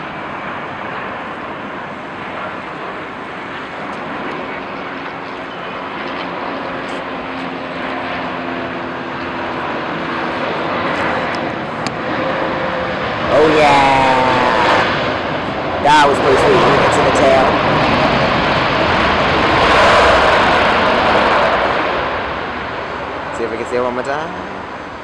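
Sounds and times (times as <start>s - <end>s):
jet engines hissing: 0.0s - 25.0s.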